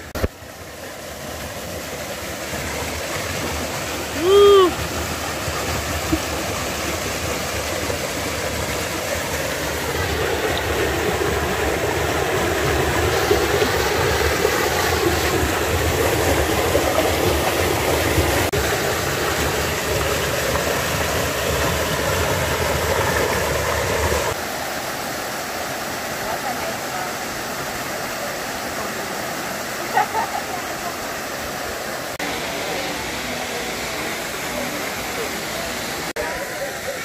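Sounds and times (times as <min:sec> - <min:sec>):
small waterfall splashing into pool: 0:00.0 - 0:37.0.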